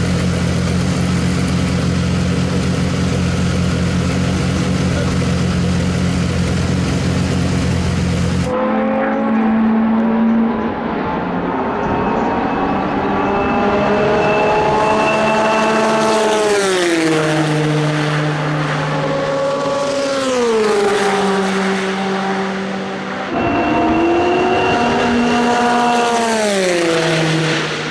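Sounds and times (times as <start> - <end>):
racing car engine at high revs: 0.0 - 27.9.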